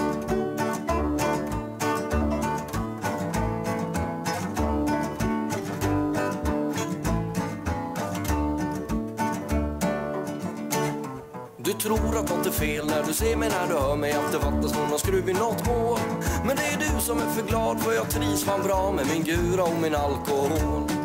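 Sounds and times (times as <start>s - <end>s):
country guitar music: 0.0s - 21.0s.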